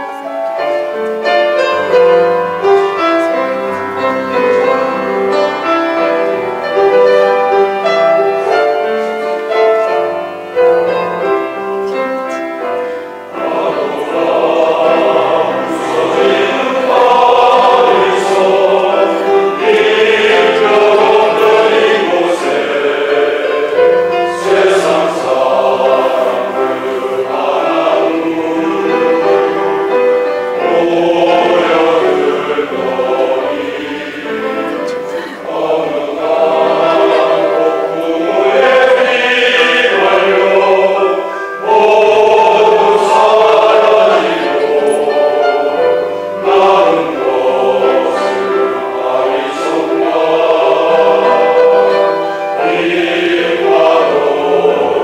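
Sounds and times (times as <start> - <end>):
men's choir singing: 0.8 - 55.0.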